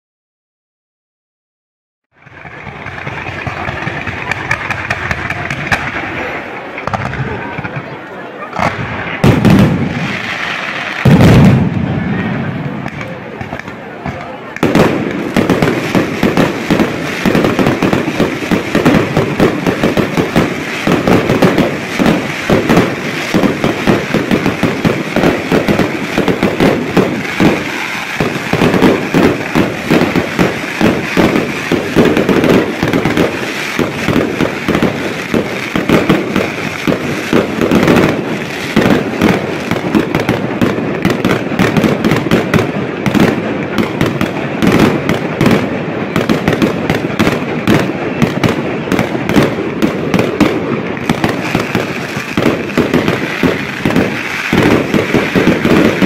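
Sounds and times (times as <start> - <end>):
fireworks bursting and crackling: 2.1 - 56.0.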